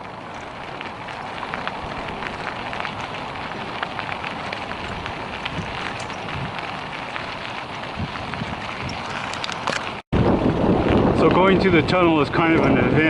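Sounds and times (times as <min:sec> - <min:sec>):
bicycle tyres rolling on gravel: 0:00.0 - 0:13.0.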